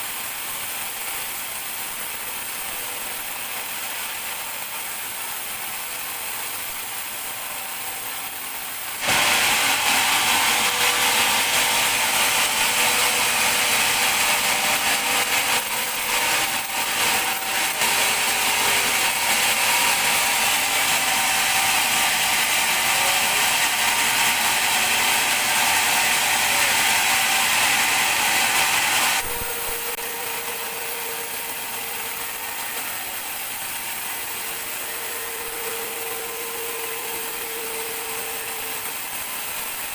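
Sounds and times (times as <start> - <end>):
band saw blade running: 0.0 - 39.9
band saw cutting log: 0.0 - 39.9.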